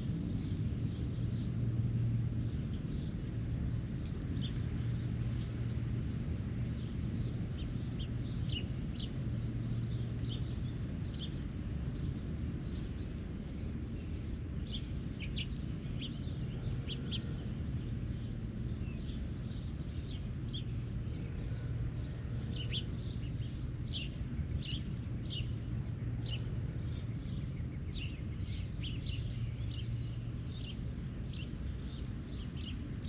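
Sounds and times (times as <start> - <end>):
steady low rumble: 0.0 - 33.0
birds chirping: 4.0 - 33.0.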